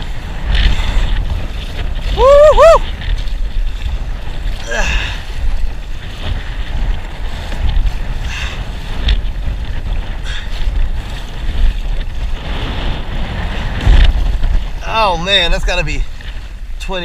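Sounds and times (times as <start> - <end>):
strong gusting wind on microphone: 0.0 - 17.0
water splashing against kayak: 0.0 - 17.0.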